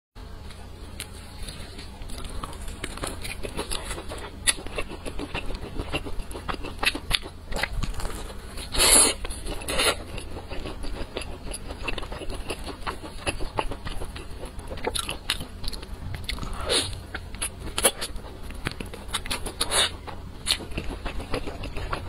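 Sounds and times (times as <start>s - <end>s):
biting crispy fried chicken: 0.9s - 22.0s.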